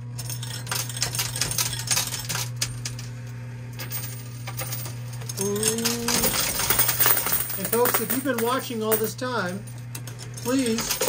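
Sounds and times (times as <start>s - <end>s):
steady low hum: 0.0s - 11.0s
coins clinking on metal: 0.2s - 3.1s, 3.8s - 11.0s.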